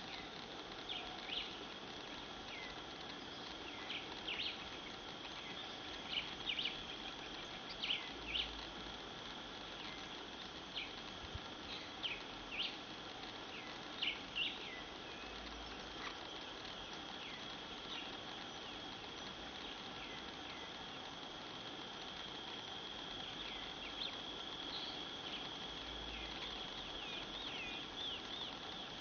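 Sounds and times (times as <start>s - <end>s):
high-pitched insect trill: 0.0s - 29.0s.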